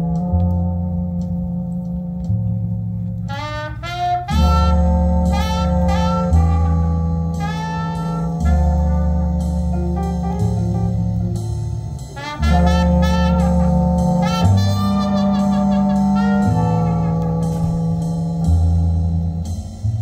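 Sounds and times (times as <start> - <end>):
sustained bass notes: 0.0 - 20.0
horn melody: 2.9 - 20.0.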